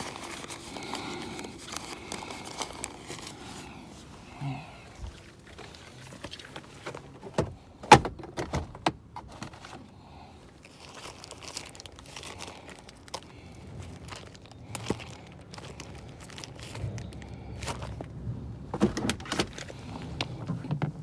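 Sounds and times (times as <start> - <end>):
rustling handling noise: 0.0 - 21.0.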